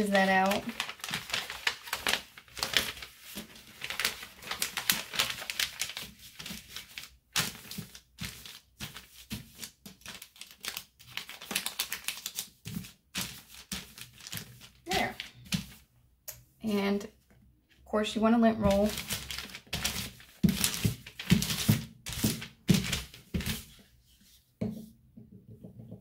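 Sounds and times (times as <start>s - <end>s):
paper rustling inside fabric: 0.0s - 15.9s, 18.6s - 24.5s.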